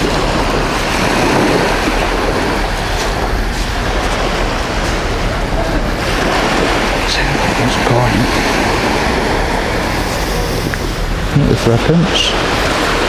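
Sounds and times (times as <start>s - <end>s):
waves breaking on beach: 0.0s - 13.0s
wind rumbling on microphone: 0.0s - 13.0s.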